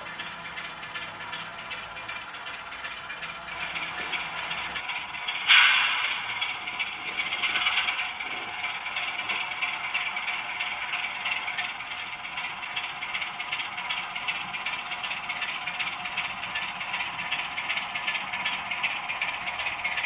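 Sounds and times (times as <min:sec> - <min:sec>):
model train rattling on track: 0:00.0 - 0:20.0.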